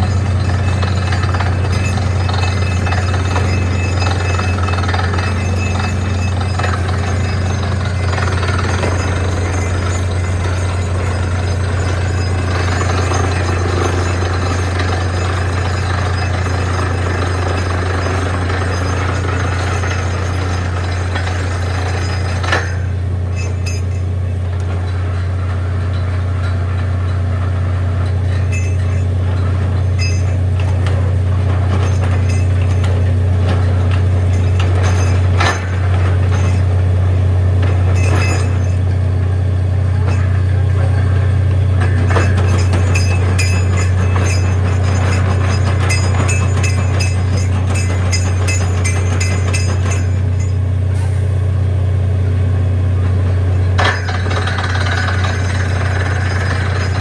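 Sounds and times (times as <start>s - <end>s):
sharp metallic clinks: 0.0s - 51.2s, 53.4s - 57.0s
drilling rig low drone: 0.0s - 57.0s.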